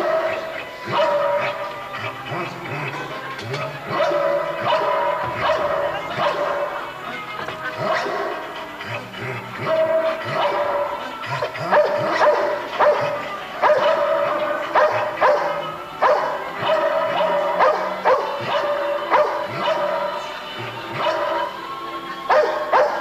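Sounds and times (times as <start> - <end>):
dog barking: 0.0 - 2.6, 3.7 - 21.6, 22.2 - 23.0
music: 0.0 - 23.0.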